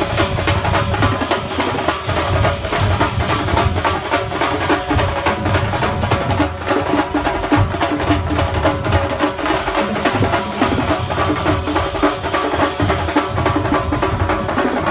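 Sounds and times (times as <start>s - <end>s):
fast dense drumming: 0.0s - 14.9s
steady held notes: 0.0s - 14.9s.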